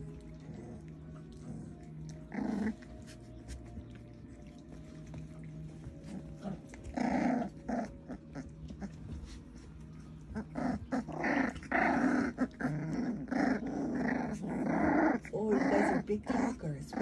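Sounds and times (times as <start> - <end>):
puppies play-growling: 0.0 - 17.0.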